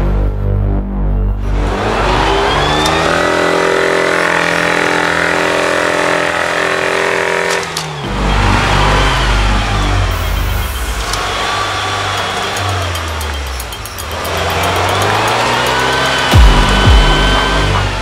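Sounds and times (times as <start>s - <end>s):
off-road vehicle engine revving: 1.4s - 18.0s.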